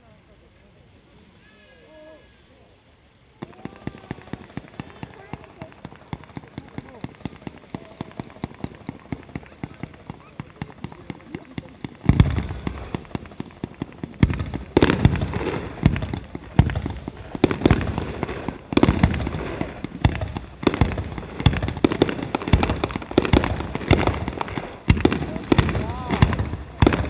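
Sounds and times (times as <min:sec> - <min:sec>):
fireworks crackling: 0:00.0 - 0:27.0
fireworks booming: 0:03.3 - 0:27.0.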